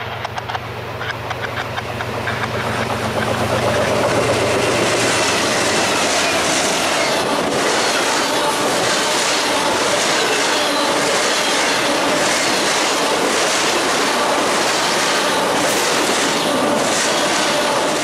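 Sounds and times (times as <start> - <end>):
locomotive engine drone: 0.0 - 18.0
train wheels rumbling on rail: 0.0 - 18.0.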